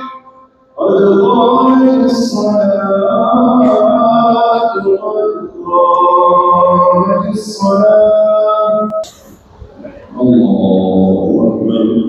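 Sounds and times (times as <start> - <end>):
man chanting over loudspeakers: 0.0 - 12.0.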